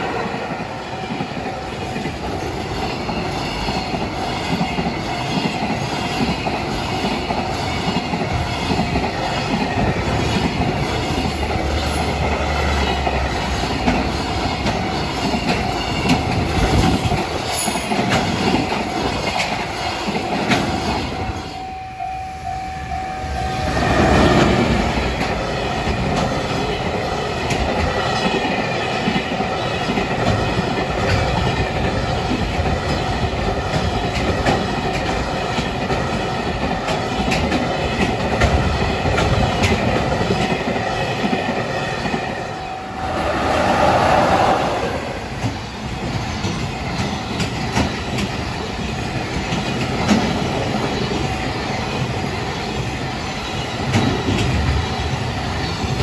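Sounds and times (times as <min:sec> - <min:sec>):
freight train wheels clattering: 0:00.0 - 0:21.6, 0:23.6 - 0:56.0.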